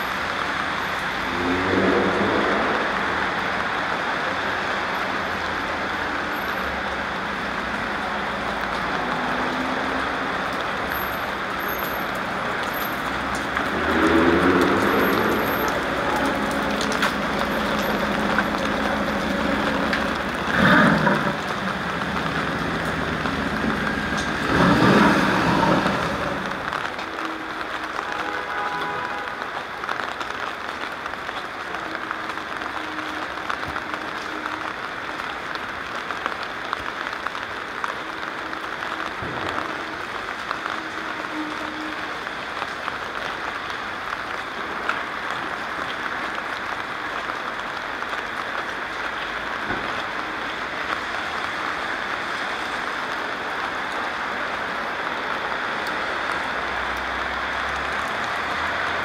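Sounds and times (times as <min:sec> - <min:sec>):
rain pattering on pavement: 0:00.0 - 0:59.0.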